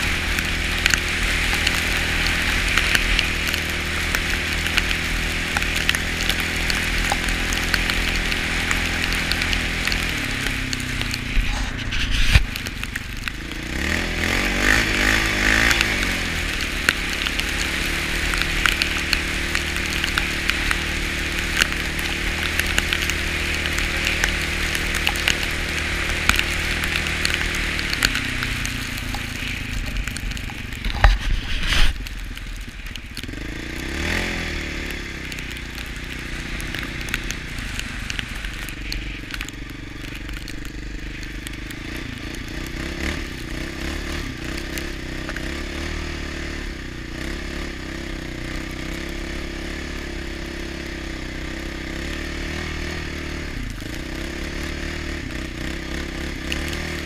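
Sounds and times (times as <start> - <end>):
quad engine running: 0.0 - 57.0
tyres hissing on snow: 0.0 - 57.0.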